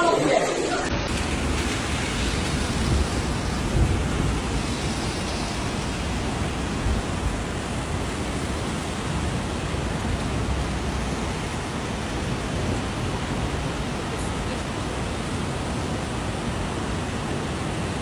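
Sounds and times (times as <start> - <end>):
rushing floodwater: 0.4 - 18.0
heavy rain: 0.7 - 18.0.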